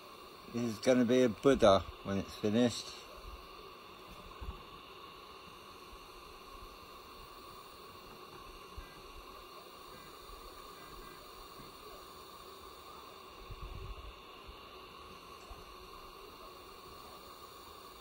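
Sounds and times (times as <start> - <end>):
printer mechanical hum and hiss: 0.0 - 18.0
printer whine: 0.0 - 18.0.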